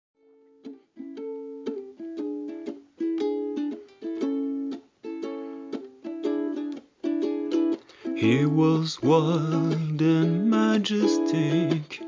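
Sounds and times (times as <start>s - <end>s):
strummed string instrument chords: 0.7s - 12.0s.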